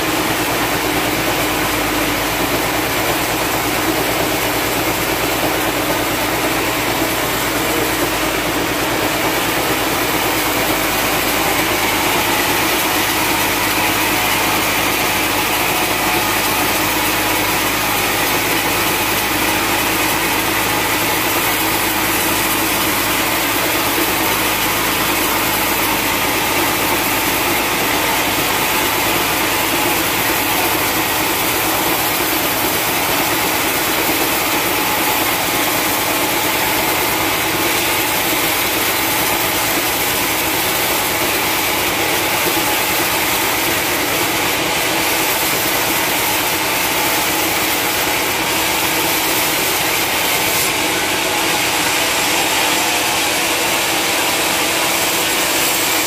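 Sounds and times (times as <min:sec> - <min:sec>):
band saw cutting timber: 0:00.0 - 0:56.0.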